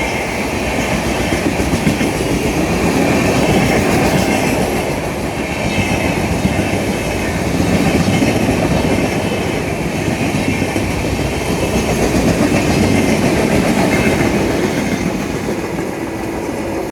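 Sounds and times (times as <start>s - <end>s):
train wheels clattering over rails: 0.0s - 16.9s.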